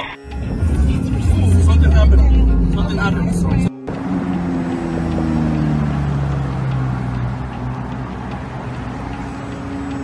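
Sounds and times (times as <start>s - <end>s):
car engine passing: 0.3s - 10.0s.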